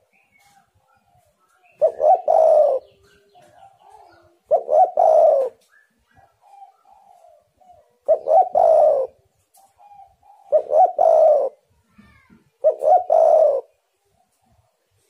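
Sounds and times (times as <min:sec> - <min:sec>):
dove cooing: 0:00.0 - 0:11.7, 0:12.6 - 0:14.4.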